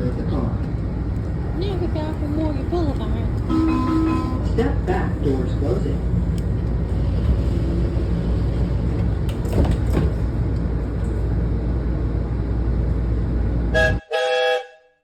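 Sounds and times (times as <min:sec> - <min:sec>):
train running low rumble: 0:00.0 - 0:14.1.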